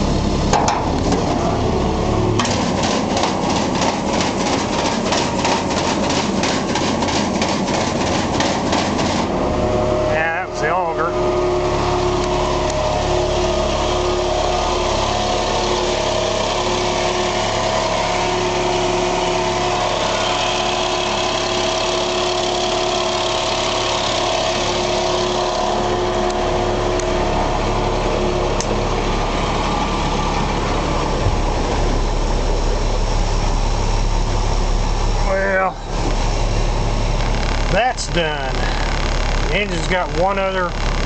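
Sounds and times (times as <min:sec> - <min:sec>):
auger drive whine: 0:00.0 - 0:41.0
diesel engine running: 0:00.0 - 0:41.0.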